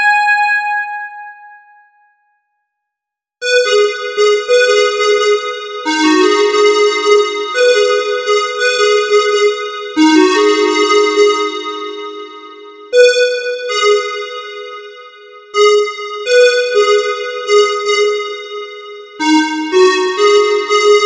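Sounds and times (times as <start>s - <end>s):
keyboard playing sustained chords: 3.4s - 21.0s.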